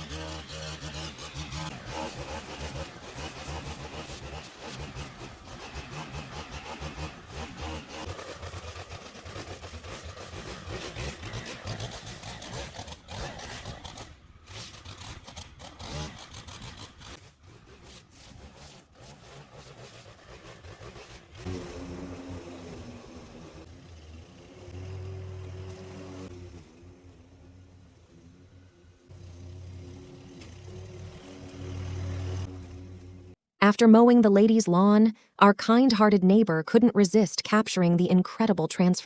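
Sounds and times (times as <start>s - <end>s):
small gasoline engine running: 0.0s - 33.4s.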